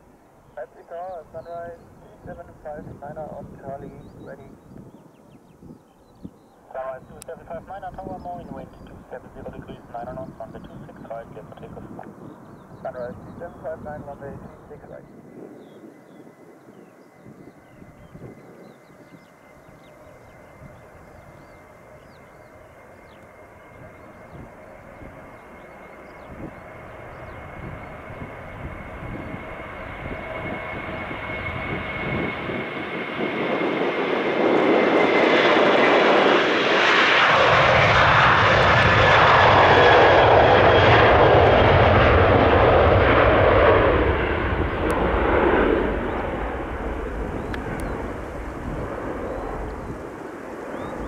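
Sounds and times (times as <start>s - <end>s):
jet engines at takeoff: 0.0s - 51.0s.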